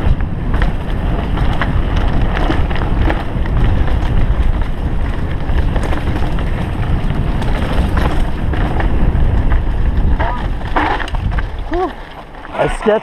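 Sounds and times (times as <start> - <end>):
bike knocks and rattles: 0.0 - 13.0
deep rumble: 0.0 - 13.0
wind buffeting microphone: 0.0 - 13.0.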